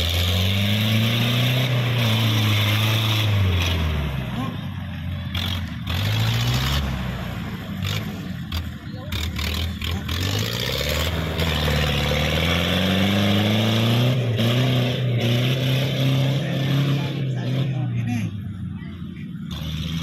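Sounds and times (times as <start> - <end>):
diesel engine revving hard: 0.0 - 18.6, 19.3 - 20.0.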